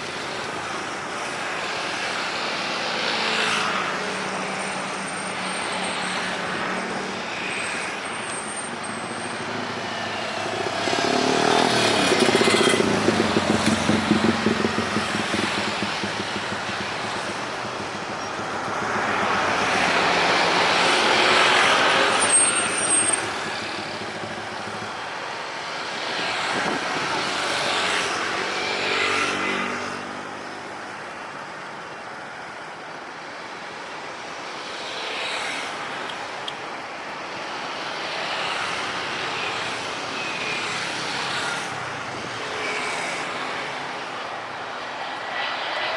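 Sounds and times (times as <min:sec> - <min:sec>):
vehicles passing: 0:00.0 - 0:45.9.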